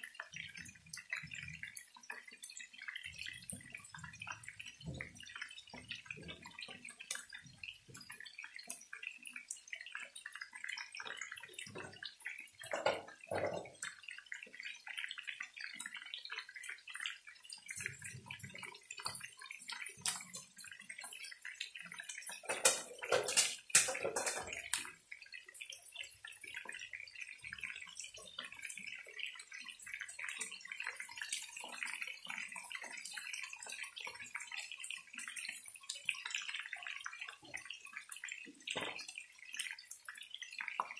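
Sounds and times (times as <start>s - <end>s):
chicken sizzling in oil: 0.0s - 40.9s.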